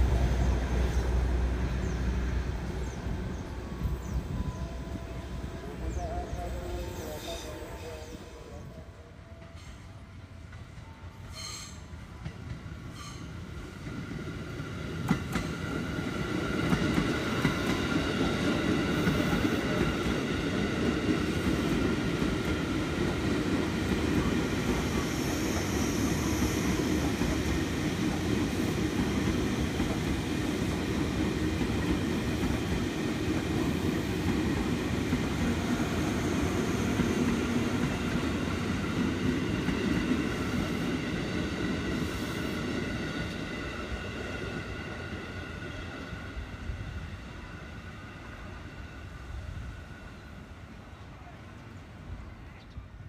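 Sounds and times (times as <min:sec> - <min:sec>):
train passing on tracks: 0:00.0 - 0:53.0.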